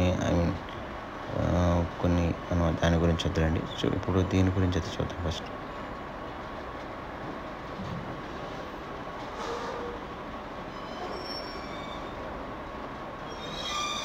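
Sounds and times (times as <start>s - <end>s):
background hiss and hum: 0.0s - 14.0s.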